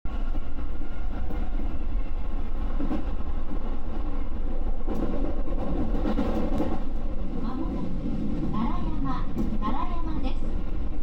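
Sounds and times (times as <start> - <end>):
train rumble: 0.1 - 11.0.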